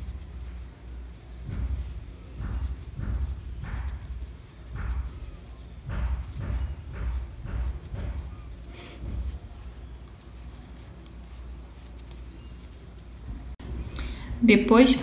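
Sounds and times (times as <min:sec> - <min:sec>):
hands crocheting rustling: 0:00.0 - 0:13.6.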